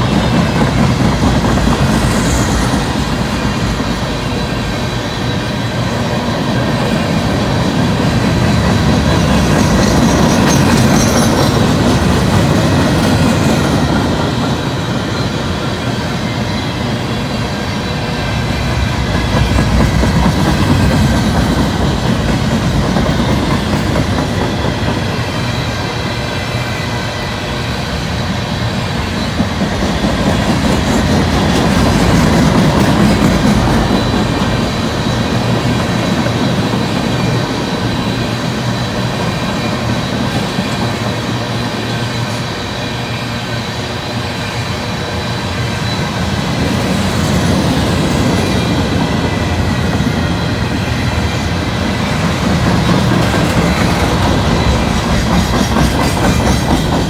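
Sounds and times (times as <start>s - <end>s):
freight train wheels rumbling: 0.0s - 57.0s
high wheel squeal: 0.0s - 57.0s.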